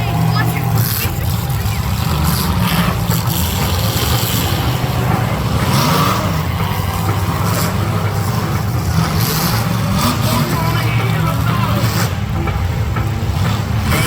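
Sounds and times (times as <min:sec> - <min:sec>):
bursts of harsh noise: 0:00.0 - 0:14.0
car engines revving loudly: 0:00.0 - 0:14.0.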